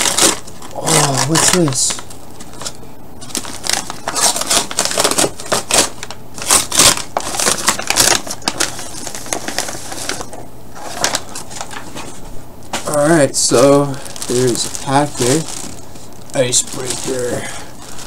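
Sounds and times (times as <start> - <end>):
plastic bag crinkling: 0.0 - 12.2, 12.8 - 18.0
paper envelope rustling: 0.0 - 18.0.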